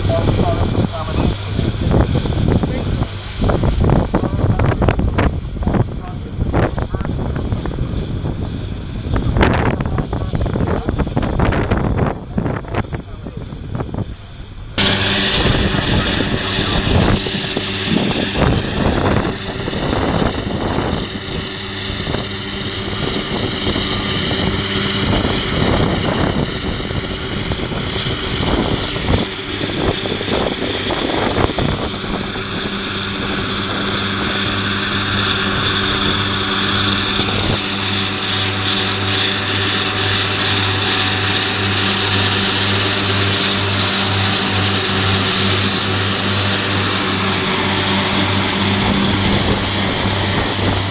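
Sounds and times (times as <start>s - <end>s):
diesel engine hum: 0.0s - 50.9s
high mower whine: 0.0s - 50.9s.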